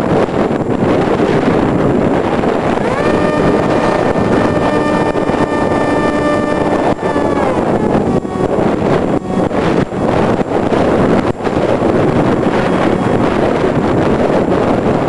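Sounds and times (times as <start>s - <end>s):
electric motor and propeller whine: 0.0s - 15.0s
wind rushing over microphone: 0.0s - 15.0s.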